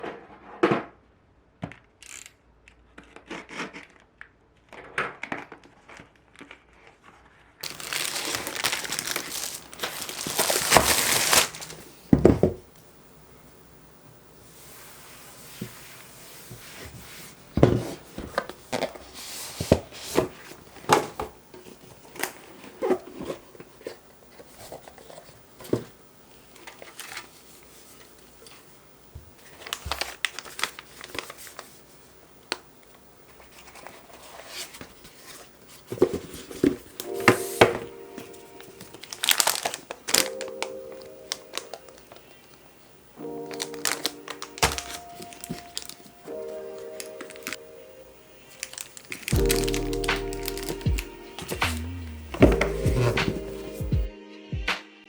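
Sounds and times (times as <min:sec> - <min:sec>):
plastic packaging crinkling: 0:07.6 - 0:54.1.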